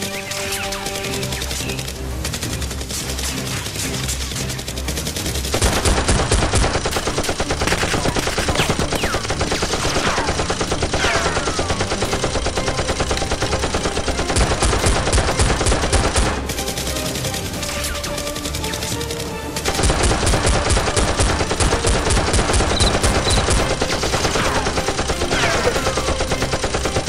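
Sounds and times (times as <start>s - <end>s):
rapid automatic gunfire: 0.0s - 27.0s.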